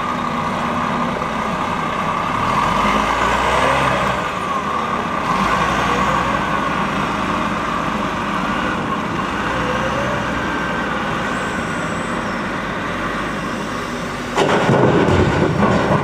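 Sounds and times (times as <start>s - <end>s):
heavy diesel engines running: 0.0s - 16.0s.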